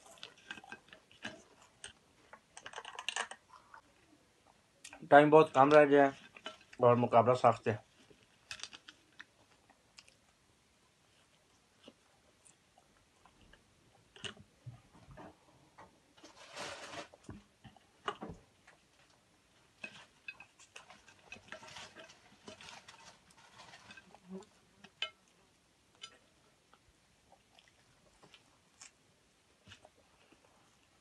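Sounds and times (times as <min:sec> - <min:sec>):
chewing and crunching food: 0:00.0 - 0:15.5, 0:16.2 - 0:31.0.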